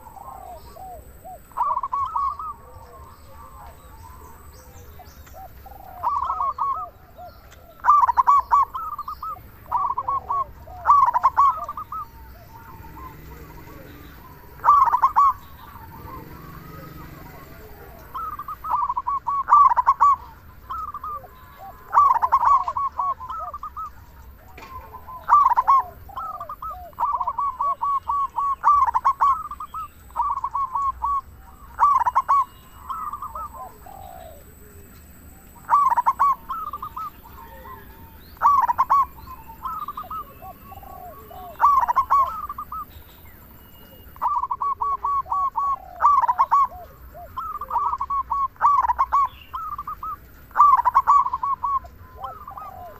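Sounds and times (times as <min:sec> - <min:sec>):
dove cooing song: 0:00.0 - 0:52.9.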